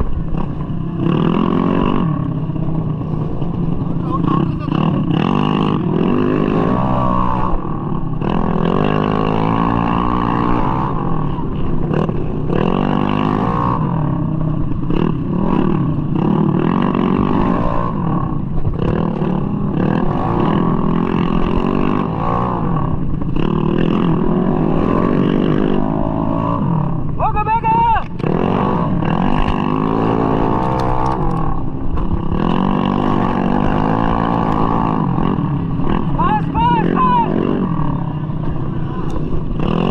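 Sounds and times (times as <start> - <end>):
scooter engine revving hard: 0.2 - 27.2, 28.1 - 39.9.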